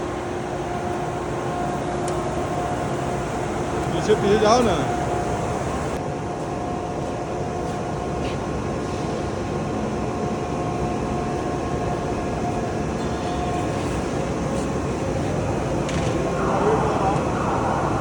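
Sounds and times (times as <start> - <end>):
machinery rumbling with high whine: 0.0 - 18.0.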